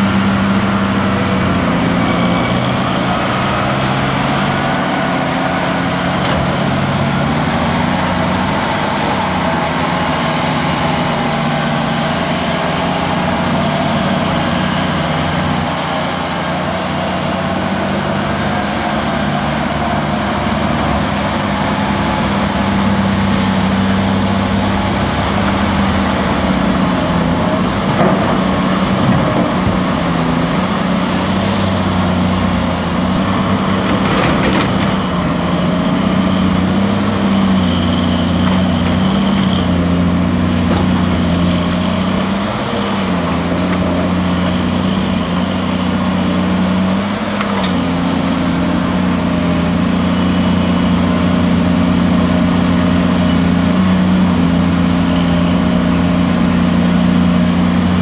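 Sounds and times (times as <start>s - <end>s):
dump truck driving: 0.0s - 58.0s
excavator engine working: 0.0s - 58.0s.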